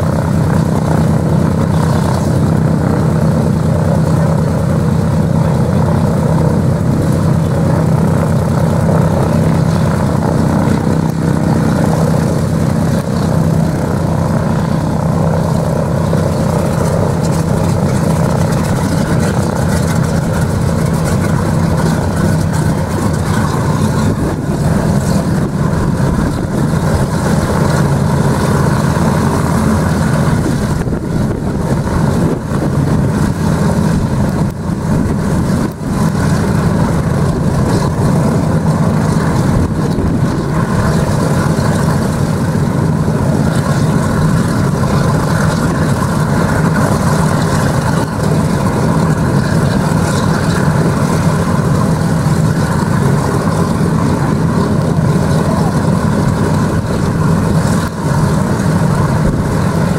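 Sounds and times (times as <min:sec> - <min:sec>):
radial aircraft engines idling: 0:00.0 - 0:59.9.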